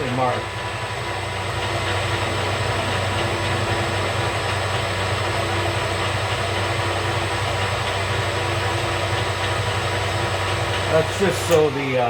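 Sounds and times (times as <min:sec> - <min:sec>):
drill cutting metal: 0:00.0 - 0:12.0
metal lathe running: 0:00.0 - 0:12.0.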